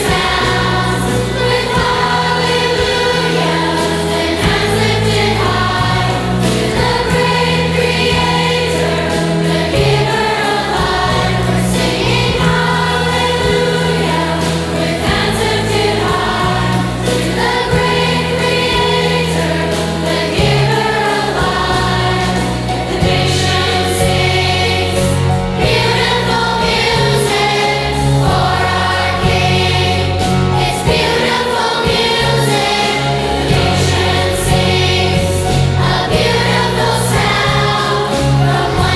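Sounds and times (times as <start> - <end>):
choir singing: 0.0 - 38.9
instrumental accompaniment: 0.0 - 38.9.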